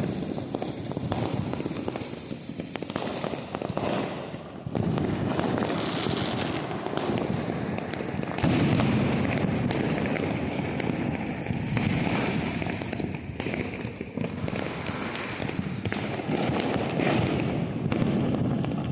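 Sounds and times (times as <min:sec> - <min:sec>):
firecrackers popping and banging: 0:00.0 - 0:18.9.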